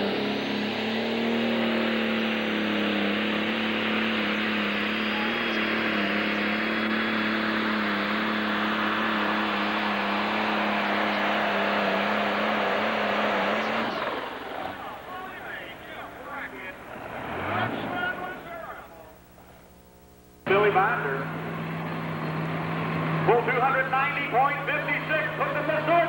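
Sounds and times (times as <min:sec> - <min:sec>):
tractor engine running flat out: 0:00.0 - 0:19.6, 0:20.5 - 0:26.0.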